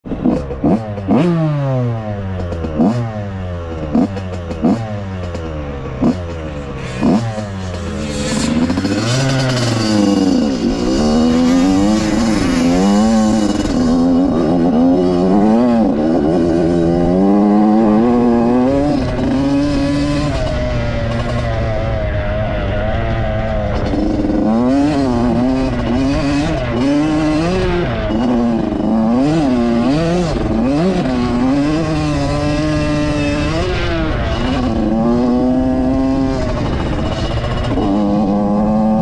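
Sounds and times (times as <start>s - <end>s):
dirt bike engine revving: 0.1s - 39.0s.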